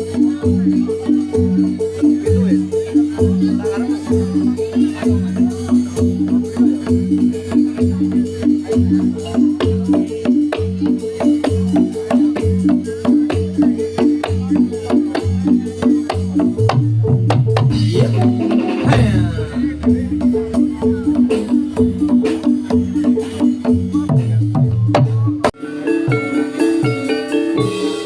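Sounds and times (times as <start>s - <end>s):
gamelan music over loudspeakers: 0.0s - 28.0s.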